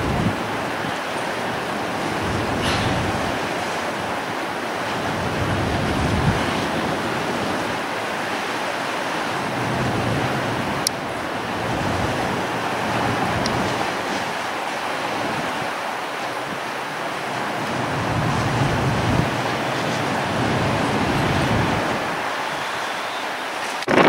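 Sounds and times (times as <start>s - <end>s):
strong wind on microphone: 0.0s - 8.0s, 9.4s - 15.8s, 17.6s - 24.0s.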